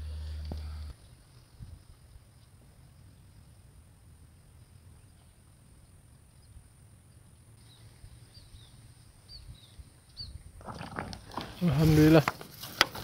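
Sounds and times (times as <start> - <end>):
wind rumbling on microphone: 0.4 - 12.3.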